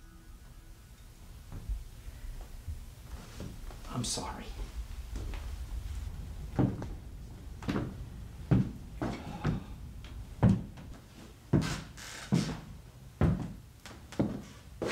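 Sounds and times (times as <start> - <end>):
low background hum: 0.0 - 14.9.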